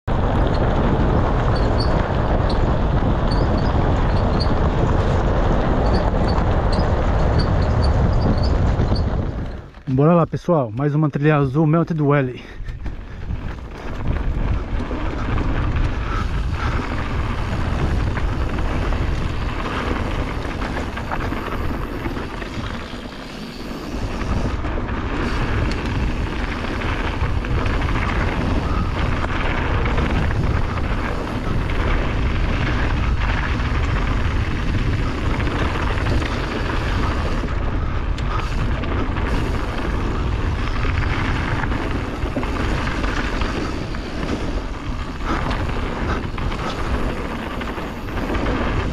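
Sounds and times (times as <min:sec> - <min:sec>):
bike tyres rolling on gravel: 0:00.0 - 0:48.9
wind buffeting microphone: 0:00.0 - 0:48.9.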